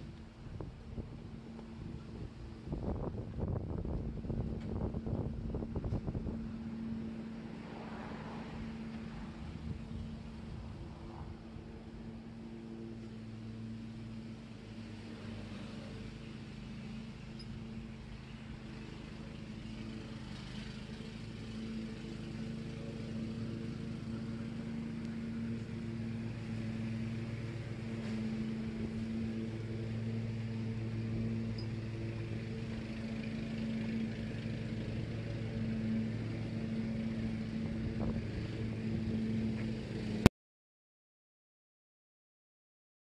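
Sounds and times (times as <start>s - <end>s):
vehicle engine running: 0.0s - 40.3s.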